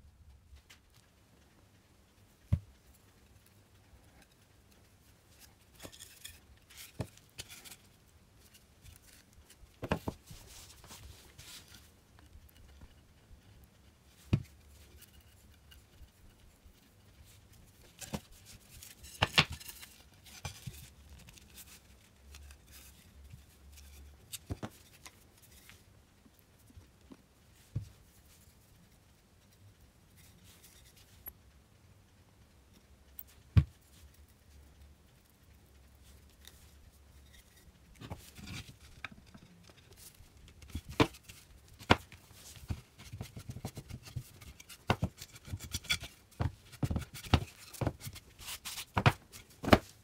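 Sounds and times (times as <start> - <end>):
soft brushing and scraping: 2.2 - 31.5, 35.8 - 50.0.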